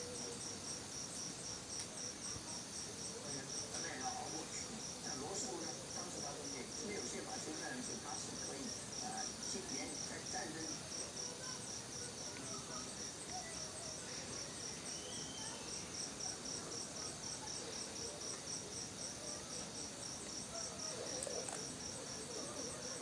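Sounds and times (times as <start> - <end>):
cricket chirping: 0.0 - 23.0
faint background hiss: 0.0 - 23.0.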